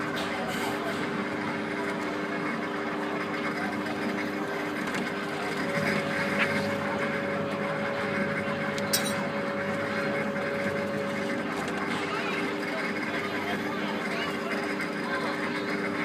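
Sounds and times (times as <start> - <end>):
monorail car humming: 0.0 - 16.0.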